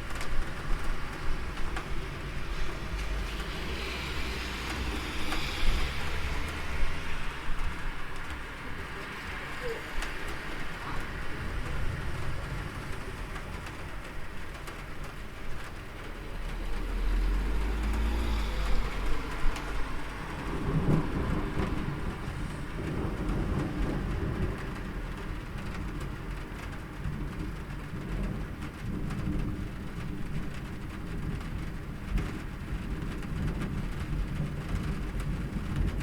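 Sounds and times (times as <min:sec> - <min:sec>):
steady rain: 0:00.0 - 0:36.0
thunder rumbling: 0:00.0 - 0:36.0.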